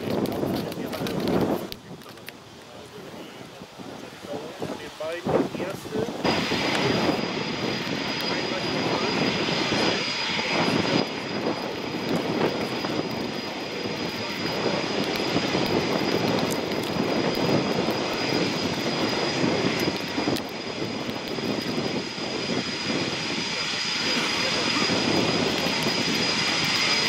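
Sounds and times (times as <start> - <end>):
high jet whine: 0.0 - 27.0
jet engines running: 0.0 - 27.0.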